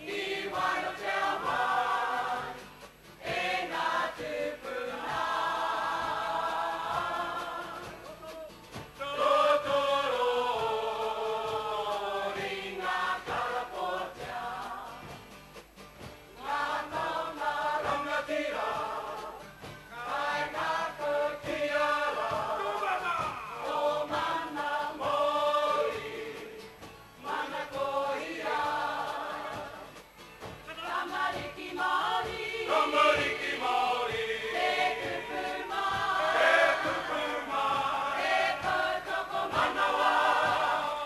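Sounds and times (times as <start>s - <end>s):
group singing in unison: 0.0s - 15.4s, 16.4s - 41.0s.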